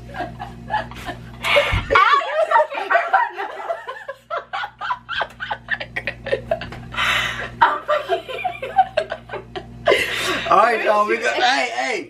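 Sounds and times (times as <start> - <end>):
woman laughing: 0.0 - 10.6.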